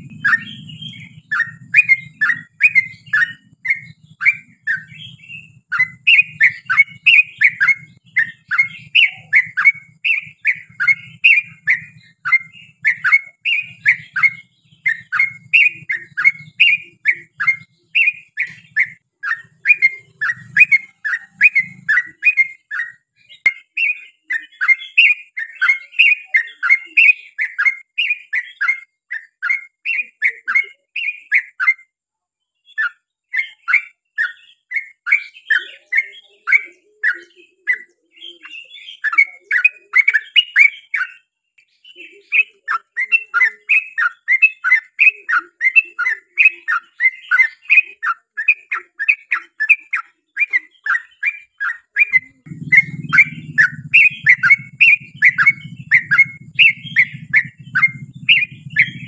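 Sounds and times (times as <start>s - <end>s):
bird singing chirpy notes: 0.0s - 31.9s, 32.6s - 59.0s.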